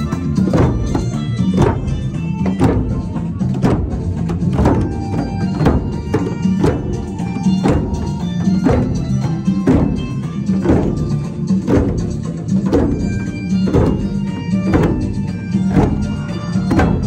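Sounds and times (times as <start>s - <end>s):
djembe drums playing: 0.0s - 17.0s.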